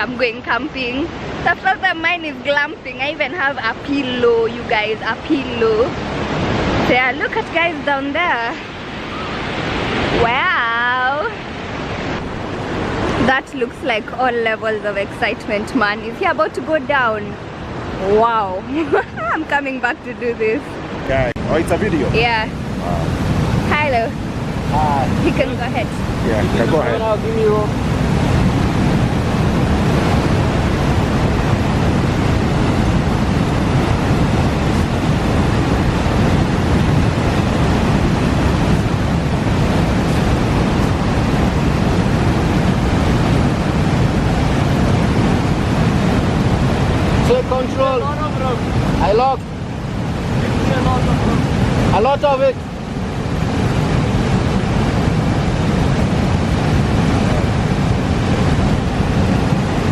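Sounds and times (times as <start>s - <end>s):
river rapids rushing: 0.0s - 59.9s
wind buffeting microphone: 0.0s - 59.9s.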